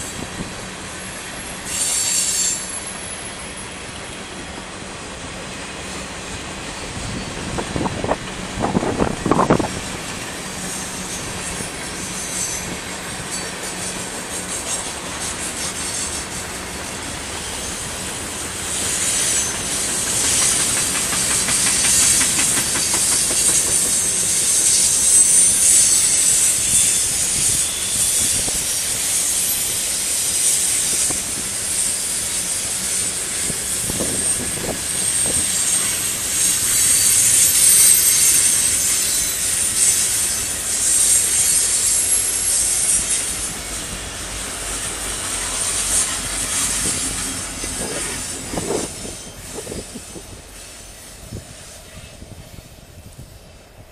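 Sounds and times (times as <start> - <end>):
freight train wheels rumbling and clattering: 0.0 - 53.9
wheel flanges squealing on rail: 0.0 - 53.9.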